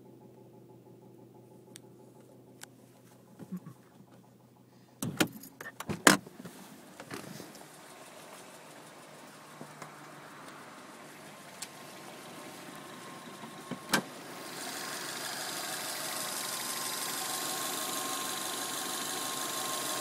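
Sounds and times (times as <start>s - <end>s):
car engine humming: 0.0s - 20.0s
engine knocking and rattling: 0.0s - 20.0s.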